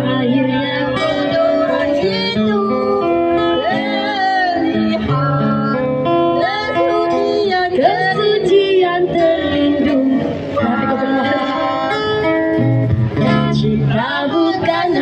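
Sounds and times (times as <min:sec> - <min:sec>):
woman singing: 0:00.0 - 0:12.6, 0:13.2 - 0:15.0
strummed acoustic guitar: 0:00.0 - 0:15.0.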